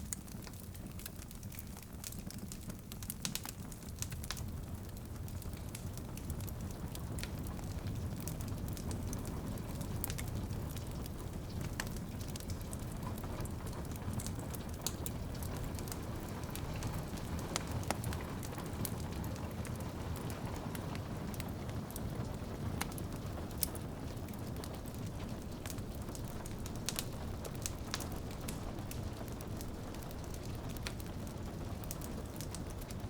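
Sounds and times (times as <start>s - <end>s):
rain pattering on a window: 0.0s - 33.0s
wood fire crackling and popping: 0.0s - 33.0s.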